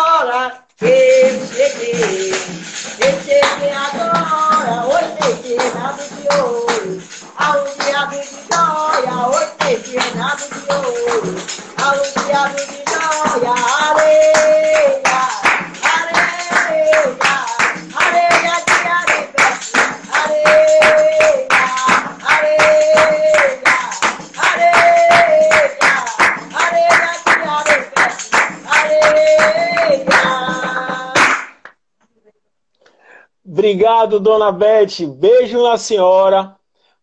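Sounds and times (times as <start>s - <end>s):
woman singing: 0.0s - 31.5s
hand-clapping: 0.8s - 31.8s.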